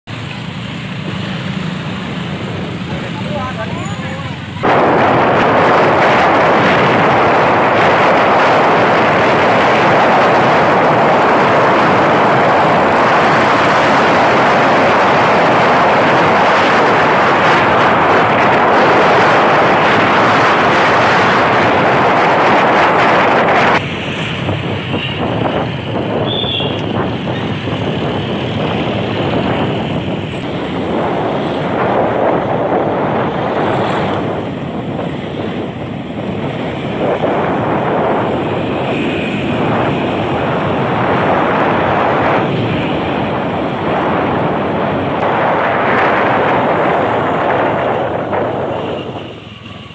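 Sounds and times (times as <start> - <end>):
road and vehicle noise: 0.0 - 49.9
wind rushing over microphone: 0.8 - 49.9.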